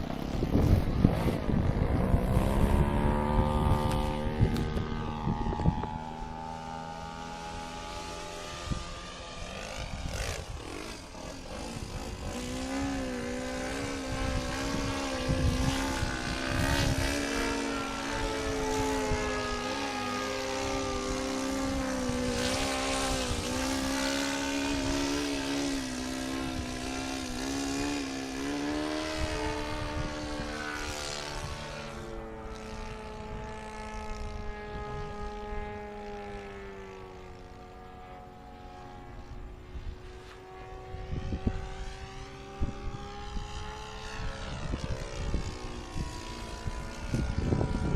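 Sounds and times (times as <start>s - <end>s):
model airplane engine: 0.0s - 47.9s
wind on microphone: 0.0s - 47.9s.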